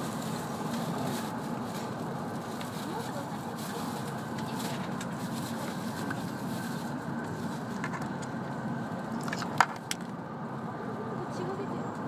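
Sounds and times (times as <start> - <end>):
train cabin running noise: 0.0 - 12.0.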